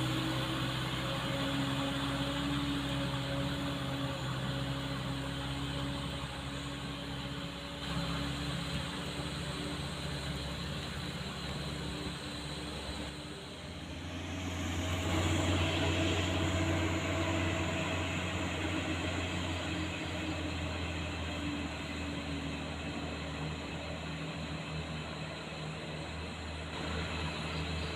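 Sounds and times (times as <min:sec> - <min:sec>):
truck engine running: 0:00.0 - 0:27.9.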